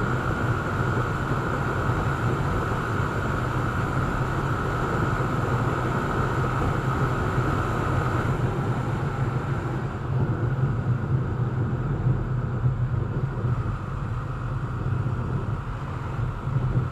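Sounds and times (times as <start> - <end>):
motorcycle engine running: 0.0 - 16.9.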